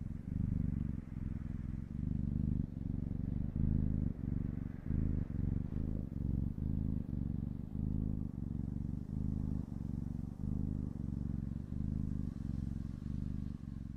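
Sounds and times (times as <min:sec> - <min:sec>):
kitten purring: 0:00.0 - 0:13.9.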